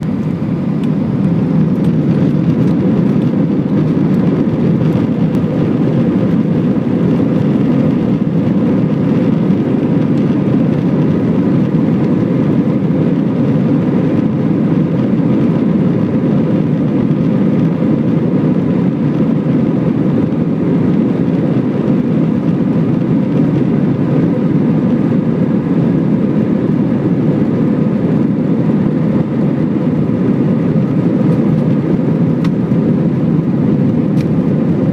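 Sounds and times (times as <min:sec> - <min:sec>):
airliner cabin rumble and hiss: 0:00.0 - 0:34.9.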